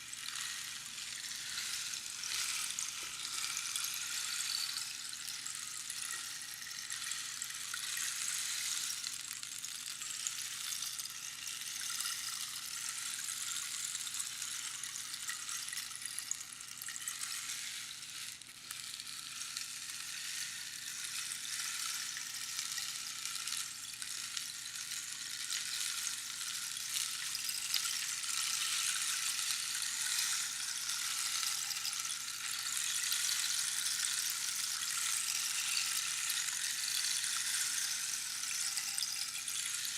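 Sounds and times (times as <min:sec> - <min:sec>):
rainstick pebbles trickling: 0:00.0 - 0:39.9.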